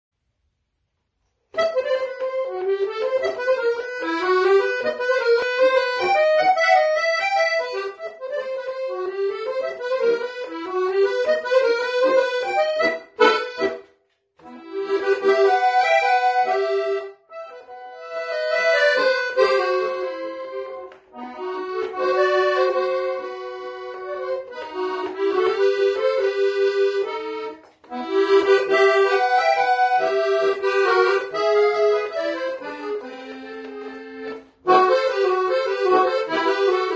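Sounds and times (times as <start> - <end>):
accordion playing a tango melody: 1.5 - 36.9.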